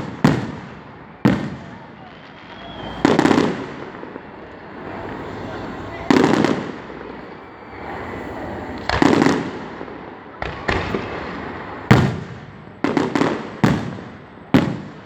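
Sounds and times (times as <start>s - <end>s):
fireworks booming and popping: 0.0s - 15.0s.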